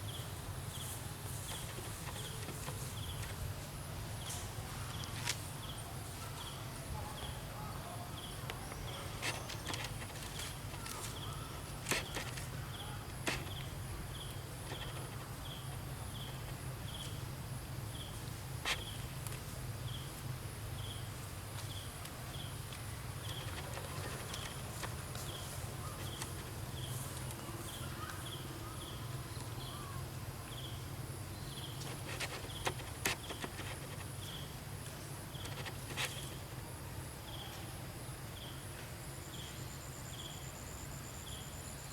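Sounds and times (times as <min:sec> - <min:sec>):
insect chirping: 0:08.2 - 0:41.9.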